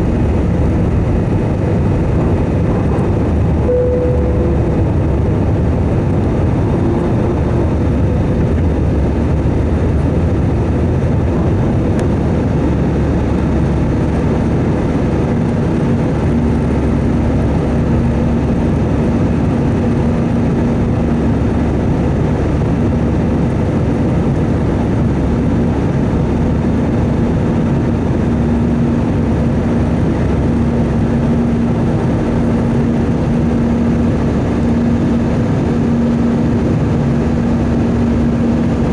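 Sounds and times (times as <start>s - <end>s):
airliner cabin engine roar: 0.0s - 38.9s
steady hum: 0.0s - 38.9s.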